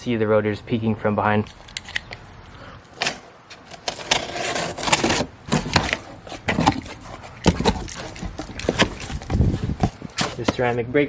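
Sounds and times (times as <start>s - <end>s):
cardboard packaging scraping and rustling: 1.4s - 10.8s.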